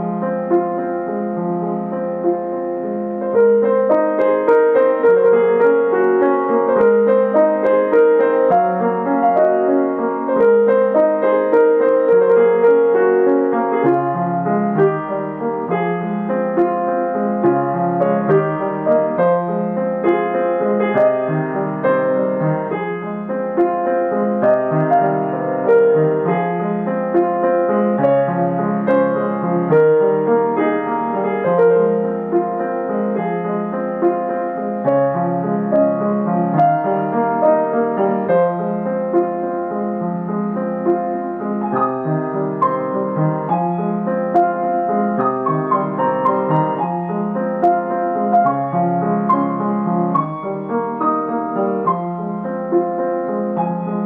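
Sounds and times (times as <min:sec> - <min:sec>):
gentle grand piano piece: 0:00.0 - 0:54.0.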